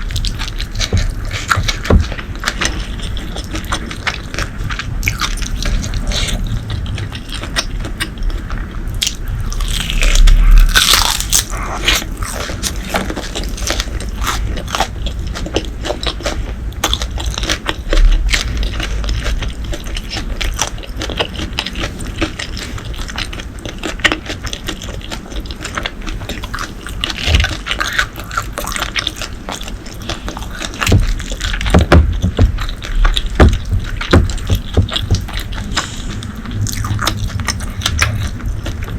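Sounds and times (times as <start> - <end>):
person chewing and biting food: 0.0 - 38.9.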